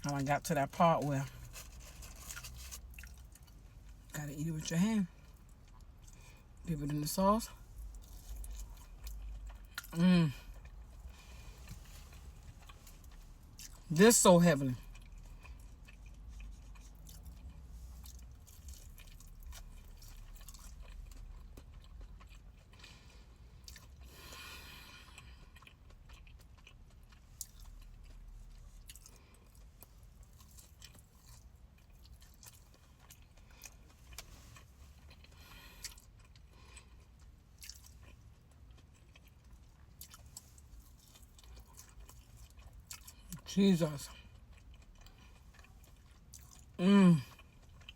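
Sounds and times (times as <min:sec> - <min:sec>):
chewing and mouth smacking: 0:00.0 - 0:04.1, 0:05.2 - 0:13.9, 0:14.8 - 0:47.9.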